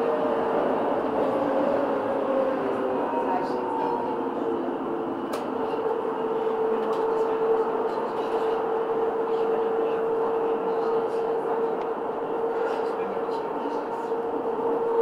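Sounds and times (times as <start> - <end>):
tram drive humming: 0.0 - 15.0
tram wheels rolling on rails: 0.0 - 15.0.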